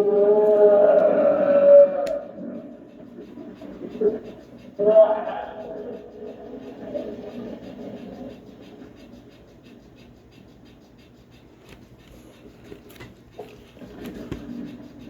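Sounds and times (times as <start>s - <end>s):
rapid scratching and clicking: 0.0s - 15.0s.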